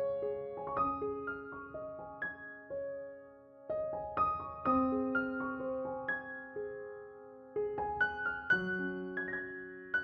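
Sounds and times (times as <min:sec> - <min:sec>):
slow piano notes: 0:00.0 - 0:10.0.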